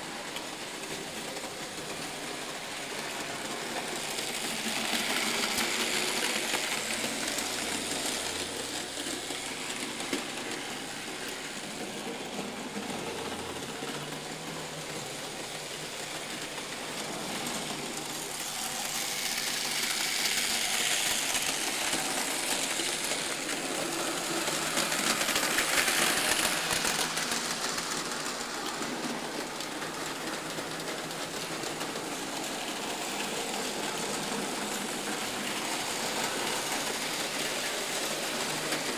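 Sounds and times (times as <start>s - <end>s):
model train motor whirring: 0.0s - 38.9s
model train wheels rolling: 0.0s - 38.9s.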